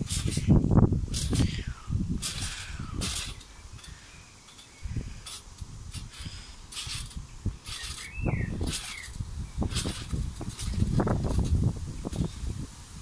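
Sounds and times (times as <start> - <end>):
trampoline mat swishing: 0.0 - 13.0
trampoline springs creaking: 0.0 - 13.0.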